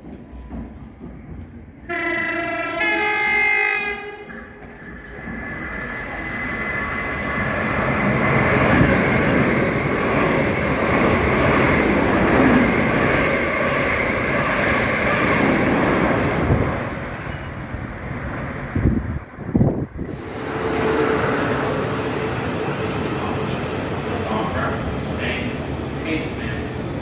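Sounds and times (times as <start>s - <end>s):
train passing on rails: 0.0s - 27.0s.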